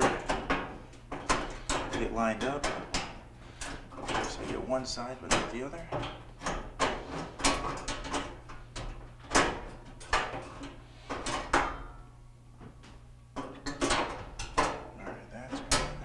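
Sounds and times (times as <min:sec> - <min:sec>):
panel clicking and rattling: 0:00.0 - 0:12.0, 0:12.7 - 0:16.0.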